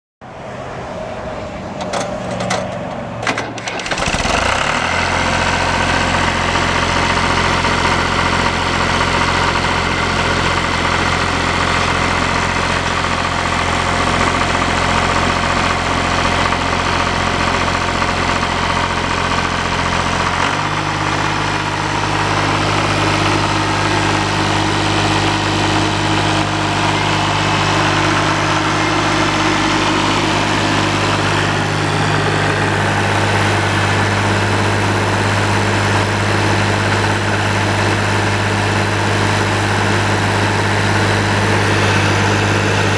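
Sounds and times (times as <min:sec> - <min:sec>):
tractor engine revving higher: 0:00.3 - 0:42.9
tractor engine idling: 0:00.5 - 0:42.9
diesel engine cranking: 0:01.0 - 0:42.9.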